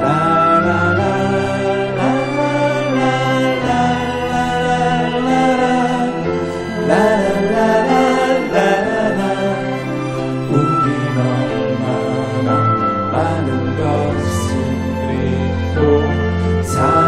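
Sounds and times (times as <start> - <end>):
men singing la la la: 0.0 - 17.0
string section playing: 0.0 - 17.0.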